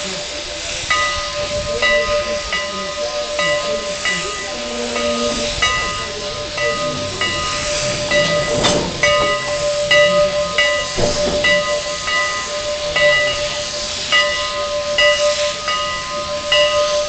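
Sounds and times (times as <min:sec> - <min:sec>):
locomotive bell ringing: 0:00.0 - 0:17.0
steam hissing: 0:00.0 - 0:17.0.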